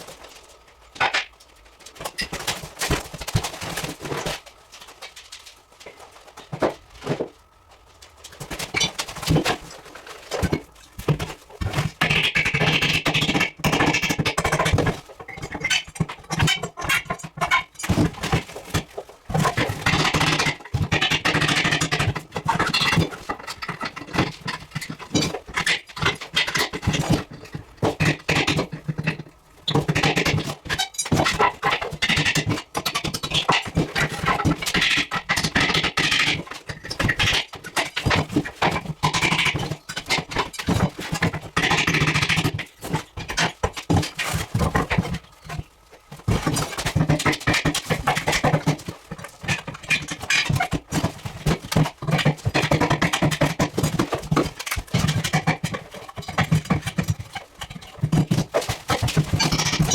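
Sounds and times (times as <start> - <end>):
clatter of knocks and scraping: 0.0 - 59.9.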